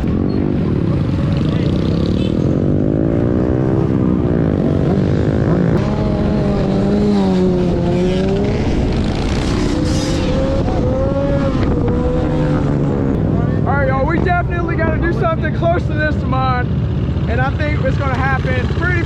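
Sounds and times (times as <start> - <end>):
vehicle engines revving past: 0.0 - 18.8.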